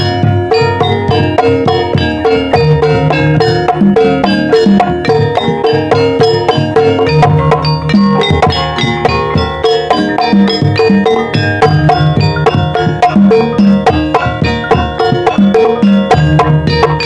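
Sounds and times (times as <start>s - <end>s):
drum strokes: 0.0s - 17.0s
gamelan metallophone notes: 0.0s - 17.0s.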